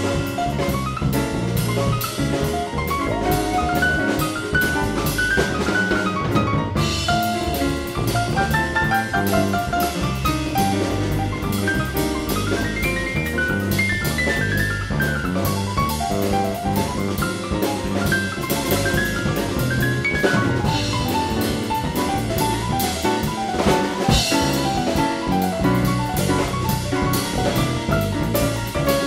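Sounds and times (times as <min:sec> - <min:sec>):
drum kit beat: 0:00.0 - 0:29.0.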